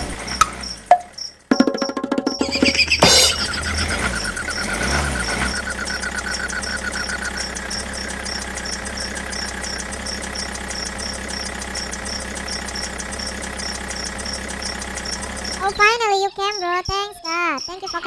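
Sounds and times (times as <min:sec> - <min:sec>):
tractor engine chugging: 0:00.0 - 0:18.0.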